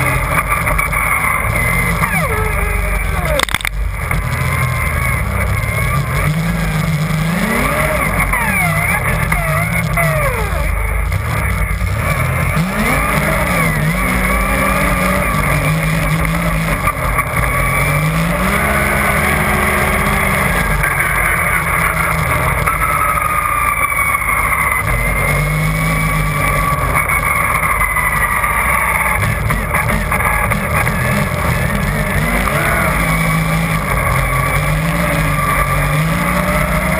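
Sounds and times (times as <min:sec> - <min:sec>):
snowmobile engine revving: 0:00.0 - 0:36.9
steady high whine: 0:00.0 - 0:36.9.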